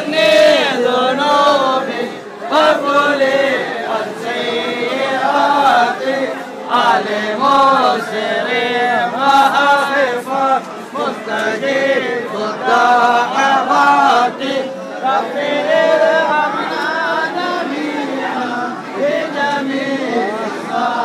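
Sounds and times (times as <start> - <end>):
men chanting together: 0.0 - 21.0.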